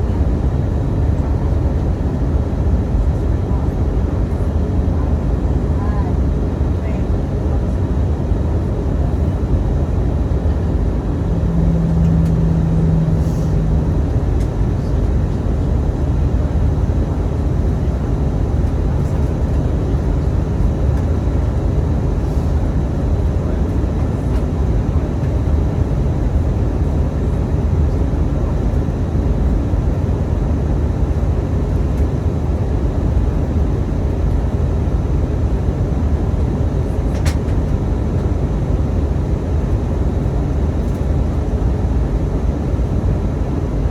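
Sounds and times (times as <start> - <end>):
airplane cabin engine rush: 0.0 - 43.9
low steady hum: 0.0 - 43.9.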